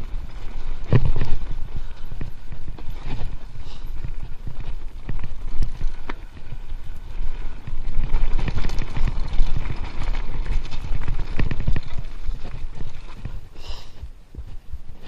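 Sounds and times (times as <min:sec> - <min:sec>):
tyres crunching over stones: 0:00.0 - 0:14.6
bike chain and frame rattling: 0:00.0 - 0:15.0
wind rumble on microphone: 0:00.0 - 0:15.0.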